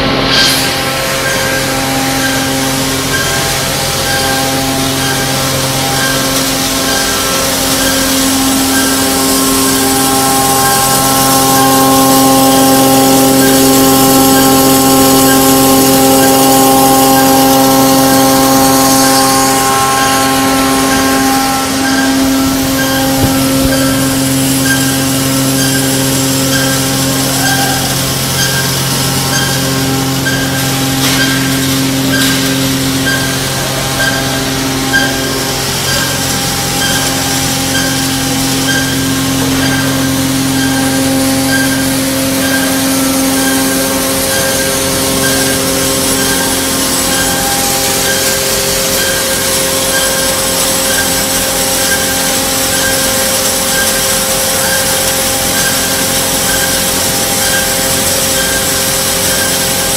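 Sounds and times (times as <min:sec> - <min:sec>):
machinery humming: 0:00.0 - 0:59.9.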